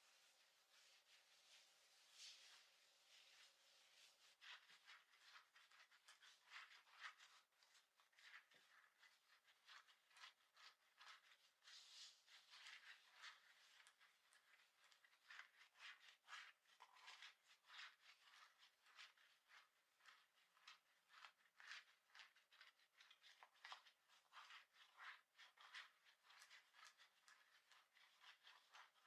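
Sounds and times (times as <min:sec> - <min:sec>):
scratching on clothing fabric: 0:00.0 - 0:29.0.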